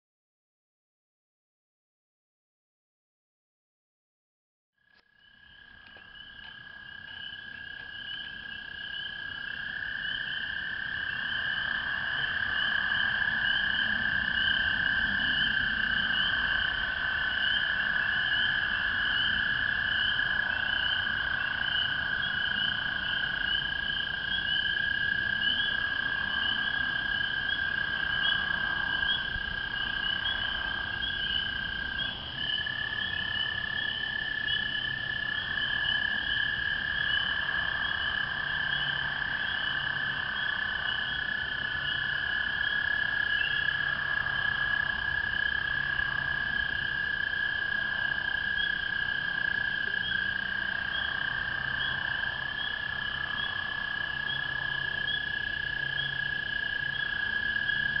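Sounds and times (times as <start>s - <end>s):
frogs chorus: 4.8s - 58.0s
toads trilling: 5.2s - 58.0s.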